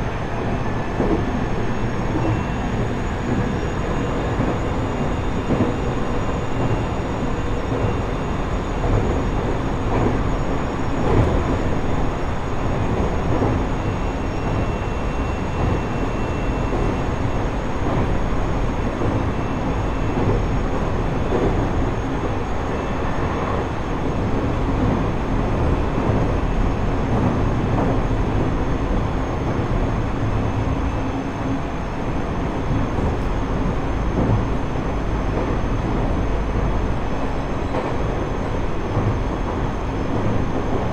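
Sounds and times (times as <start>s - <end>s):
wheels rumbling on rail: 0.0s - 40.9s.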